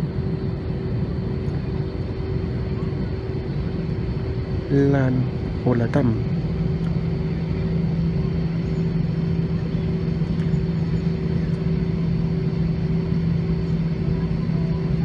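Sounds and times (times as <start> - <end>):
airplane cabin engine hum: 0.0 - 15.0.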